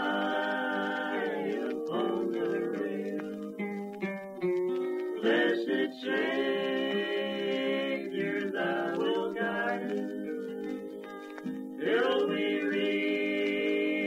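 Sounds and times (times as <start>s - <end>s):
voices singing in close harmony: 0.0s - 3.8s, 5.0s - 14.0s.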